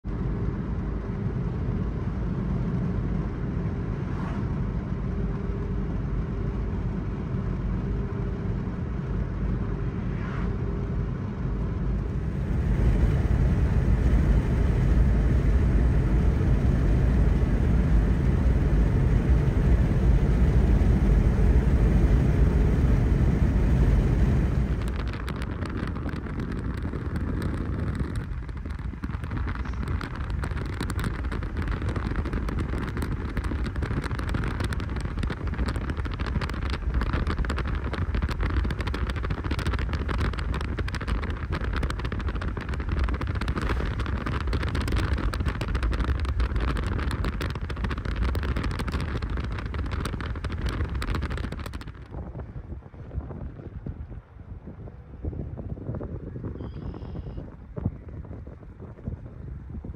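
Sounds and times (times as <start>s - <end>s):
car road rumble: 0.0s - 59.9s
wind buffeting on microphone: 0.1s - 59.9s.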